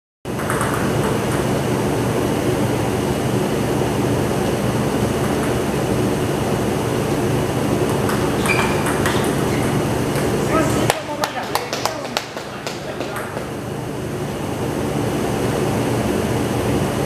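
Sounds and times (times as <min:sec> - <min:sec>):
air conditioner humming: 0:00.3 - 0:17.0.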